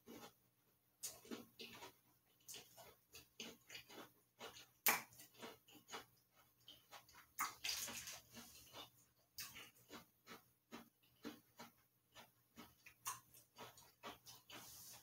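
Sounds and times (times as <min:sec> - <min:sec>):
cookie crunching: 0:01.0 - 0:15.0.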